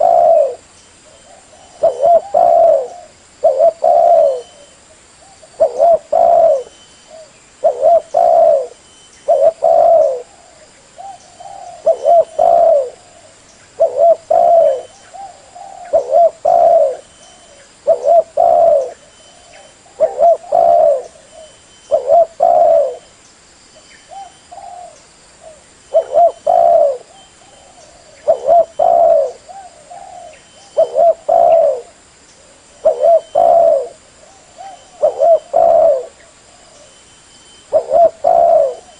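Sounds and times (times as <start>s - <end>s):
dove cooing: 0.0s - 23.1s, 24.1s - 37.0s, 37.6s - 38.9s.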